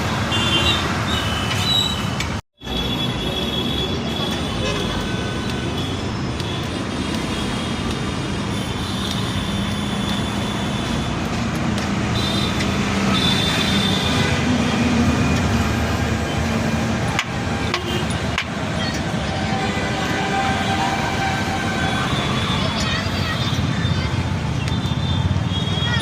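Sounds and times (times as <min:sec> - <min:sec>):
traffic noise: 0:00.0 - 0:26.0.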